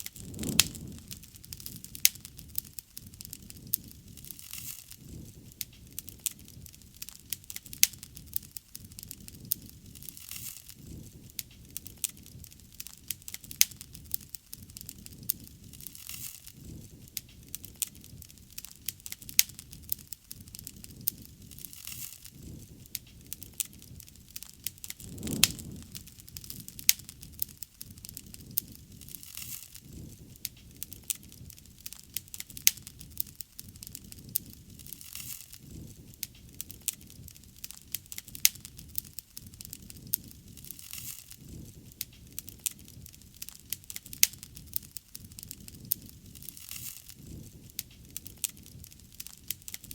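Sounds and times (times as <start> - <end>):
flames fluttering: 0.0 - 49.9
wood fire crackling: 0.0 - 49.9.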